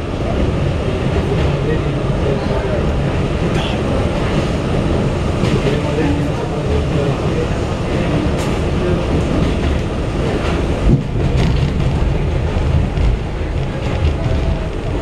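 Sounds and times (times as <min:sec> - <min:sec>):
passing train rushing past: 0:00.0 - 0:15.0
subway car wheels rumbling: 0:00.0 - 0:15.0.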